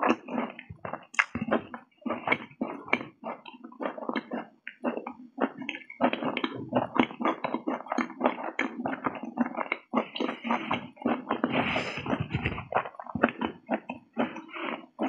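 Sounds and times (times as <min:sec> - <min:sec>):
chewing and lip smacking: 0:00.0 - 0:15.0.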